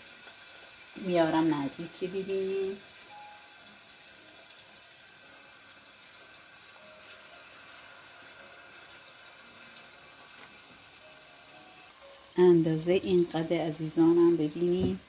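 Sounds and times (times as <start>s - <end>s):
potato slices sizzling in oil: 0.0s - 15.0s.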